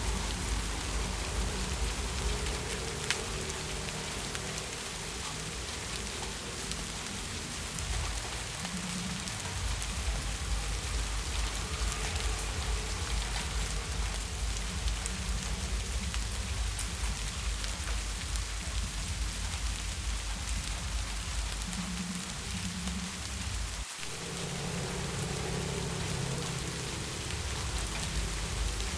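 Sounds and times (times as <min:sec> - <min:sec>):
deep low rumble: 0:00.0 - 0:28.9
heavy rain falling: 0:00.0 - 0:28.9.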